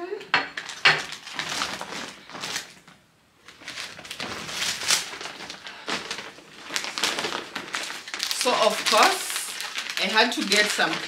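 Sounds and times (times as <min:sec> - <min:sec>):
plastic bag rustling and crinkling: 0:00.6 - 0:11.0.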